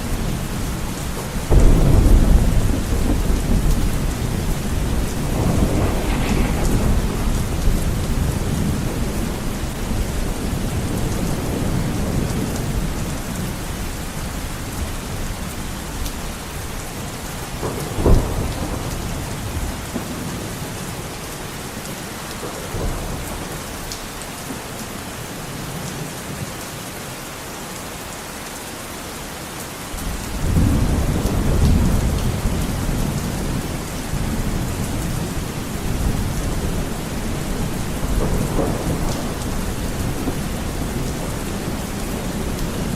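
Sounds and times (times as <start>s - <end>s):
rumble of thunder: 0.0s - 21.2s, 22.4s - 23.9s, 30.0s - 42.9s
heavy rain on window glass: 0.0s - 42.9s.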